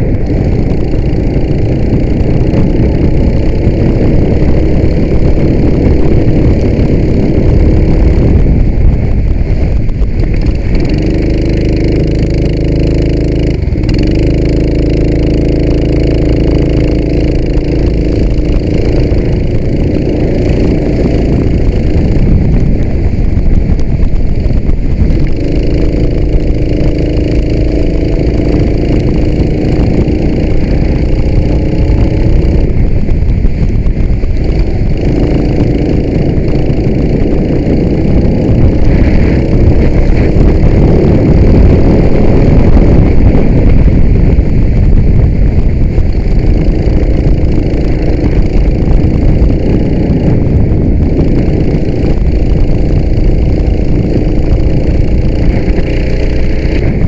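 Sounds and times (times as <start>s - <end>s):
go-kart engine running: 0.0s - 57.0s
wind rumble on microphone: 0.0s - 57.0s.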